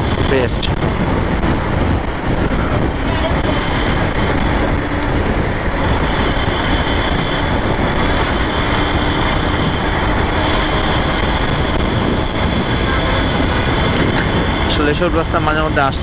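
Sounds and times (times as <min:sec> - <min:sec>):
motorcycle engine running: 0:00.0 - 0:14.9
road noise: 0:00.0 - 0:16.0
wind rush: 0:00.0 - 0:16.0.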